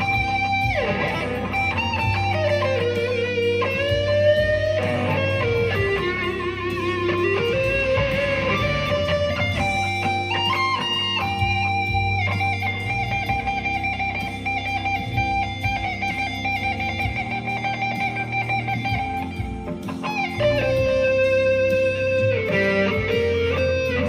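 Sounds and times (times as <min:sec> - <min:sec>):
electric guitar with wah pedal: 0:00.0 - 0:24.0.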